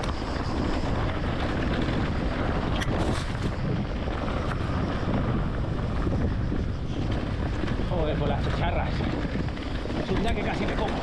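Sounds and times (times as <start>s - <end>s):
bike tyres and frame rattling: 0.0s - 11.0s
wind buffeting microphone: 0.0s - 11.0s.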